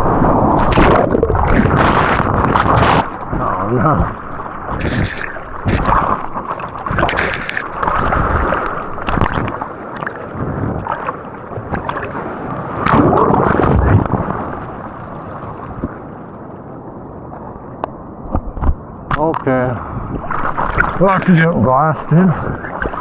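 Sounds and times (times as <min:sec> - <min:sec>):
seawater splashing: 0:00.0 - 0:16.5, 0:18.4 - 0:23.0.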